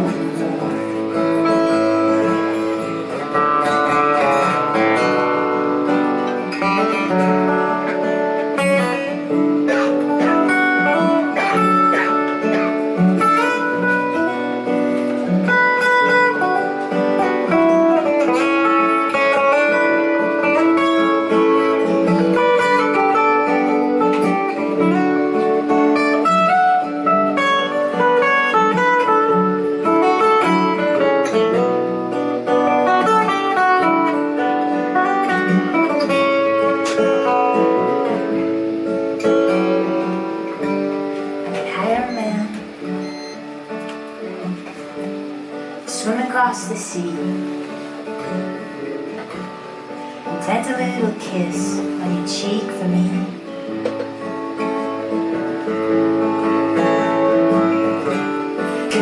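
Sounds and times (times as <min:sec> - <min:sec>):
acoustic guitar picked melody: 0:00.0 - 0:59.0.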